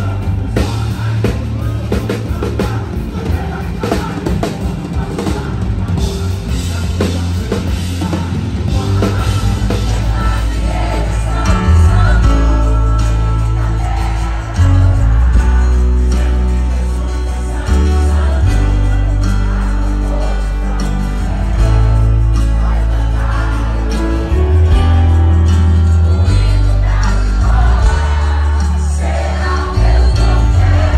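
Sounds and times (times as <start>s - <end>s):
bass: 0.0s - 30.9s
drum kit: 0.0s - 30.9s
keyboard: 0.0s - 30.9s
man singing: 0.0s - 30.9s.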